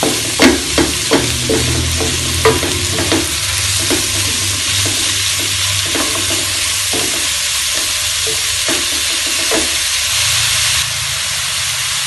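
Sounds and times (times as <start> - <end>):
wooden spatula scraping wok: 0.0 - 10.8
food sizzling in oil: 0.0 - 12.0.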